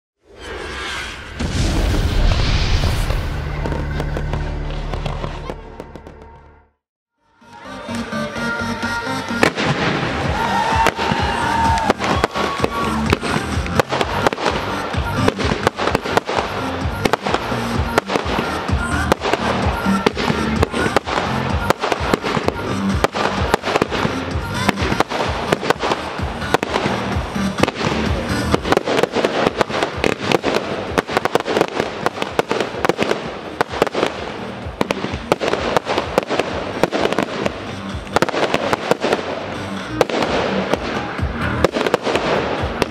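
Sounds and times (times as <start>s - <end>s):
fireworks crackling and banging: 0.4s - 6.4s, 9.2s - 42.9s
music: 1.6s - 42.9s.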